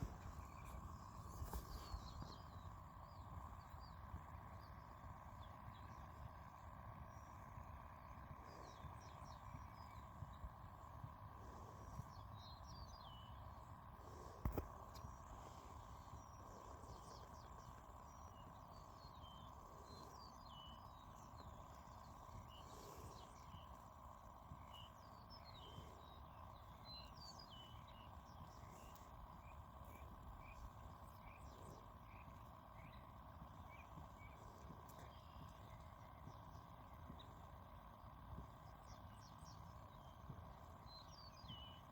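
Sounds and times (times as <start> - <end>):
birds chirping: 0.0 - 41.9
low rumble of breeze: 0.0 - 41.9.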